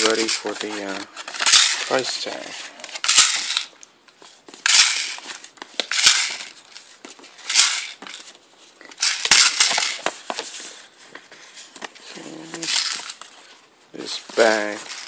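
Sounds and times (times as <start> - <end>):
paper rustling: 0.0 - 15.0.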